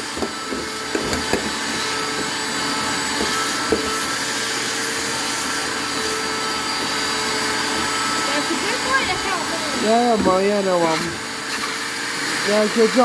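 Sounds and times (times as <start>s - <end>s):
shop vac running: 0.0s - 13.0s.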